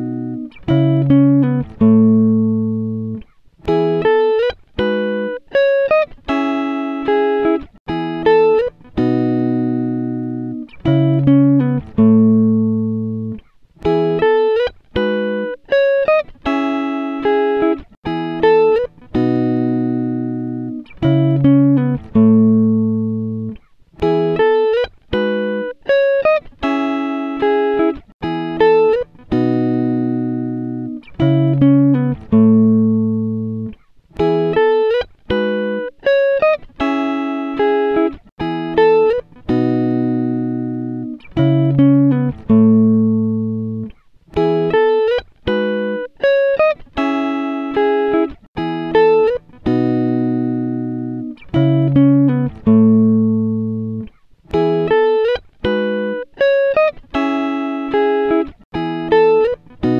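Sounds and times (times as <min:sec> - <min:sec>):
plucked-string melody: 0:00.0 - 0:59.9.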